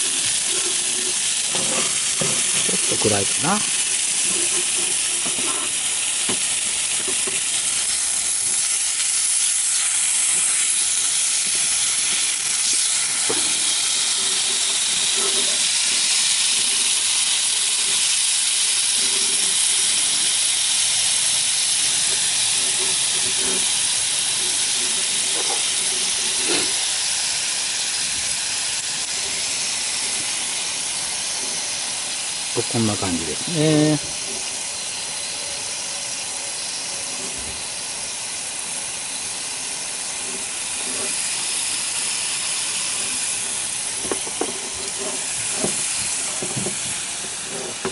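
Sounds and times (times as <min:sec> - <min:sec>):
meat sizzling in a skillet: 0:00.0 - 0:47.9.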